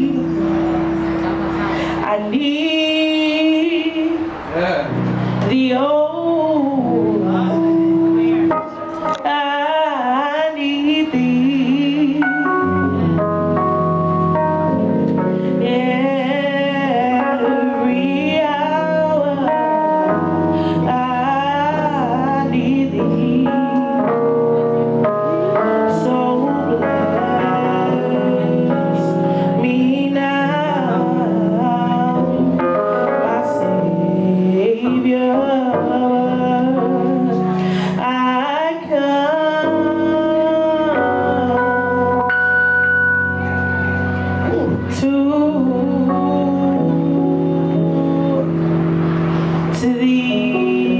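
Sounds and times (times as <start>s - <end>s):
person singing with vibrato: 0.0s - 50.9s
sustained keyboard chords: 0.0s - 50.9s.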